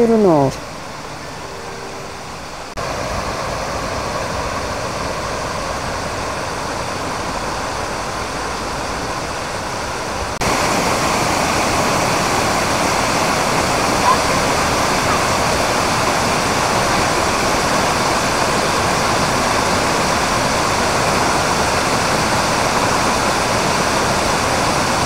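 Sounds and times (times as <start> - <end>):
waterfall rushing: 0.2 - 25.0.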